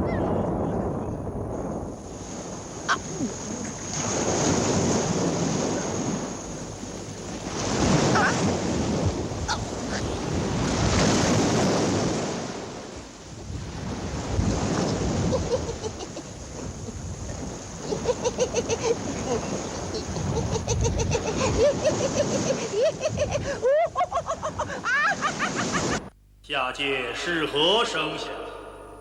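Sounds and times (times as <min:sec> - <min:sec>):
sea surf breaking: 0:00.0 - 0:26.1.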